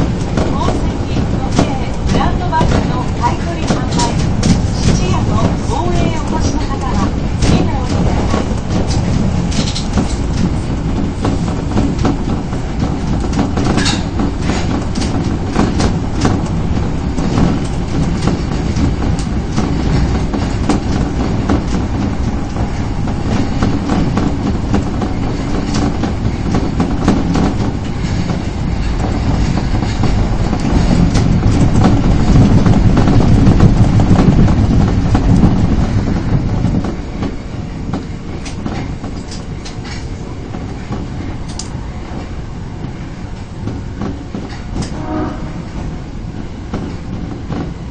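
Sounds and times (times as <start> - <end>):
rail clicks: 0.0 - 47.9
train wheels rumbling on rail: 0.0 - 47.9.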